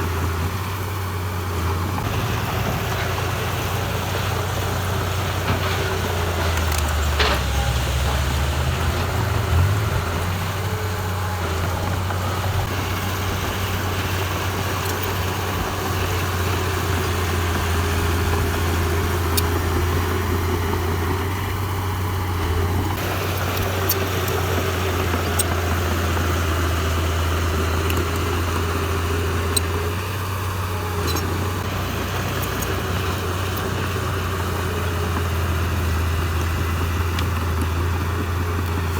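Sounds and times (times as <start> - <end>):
diesel machinery engine humming: 0.0 - 38.9.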